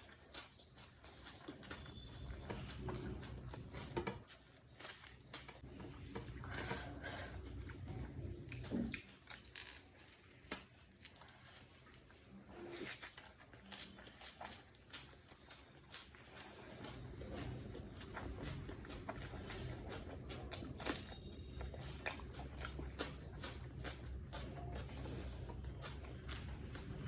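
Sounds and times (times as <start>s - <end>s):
close chewing with mouth clicks: 0.0s - 27.0s.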